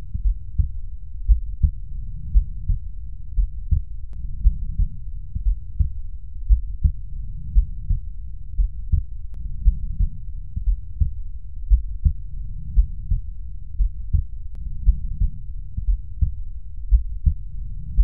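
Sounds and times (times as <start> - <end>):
heartbeat lub-dub thumps: 0.0 - 18.0.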